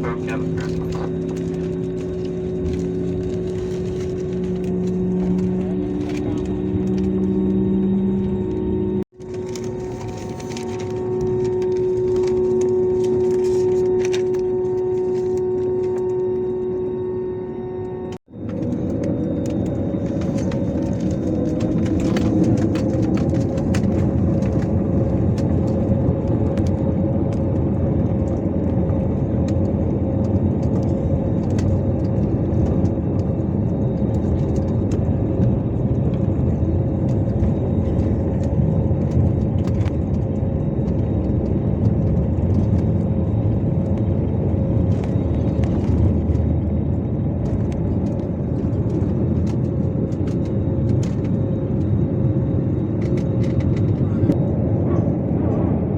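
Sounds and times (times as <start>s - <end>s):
constant hum: 0.0s - 55.9s
jet engines rumbling in cabin: 0.0s - 55.9s.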